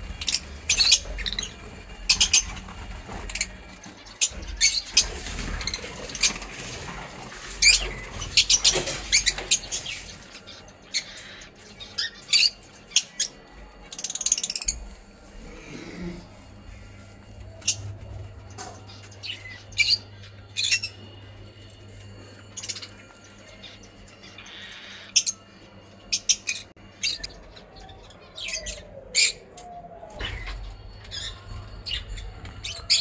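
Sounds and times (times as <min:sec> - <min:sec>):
parrots chirping and squawking: 0:00.0 - 0:33.0
steady low hum: 0:00.0 - 0:33.0.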